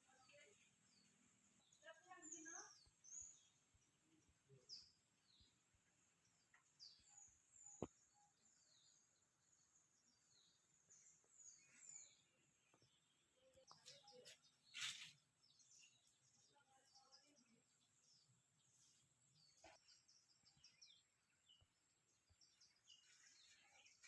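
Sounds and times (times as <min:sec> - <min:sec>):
faint bird chirps: 0:00.0 - 0:24.0
quiet rural ambience: 0:00.0 - 0:24.0.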